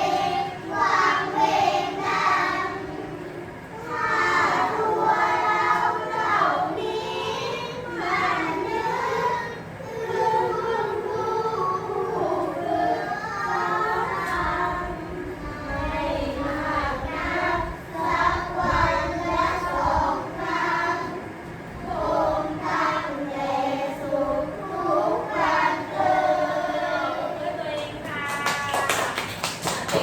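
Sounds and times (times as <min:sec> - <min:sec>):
child chanting verse: 0:00.0 - 0:28.9.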